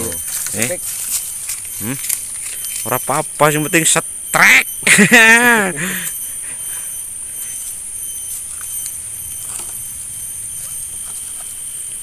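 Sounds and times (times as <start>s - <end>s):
high-pitched hum: 0.0s - 12.0s.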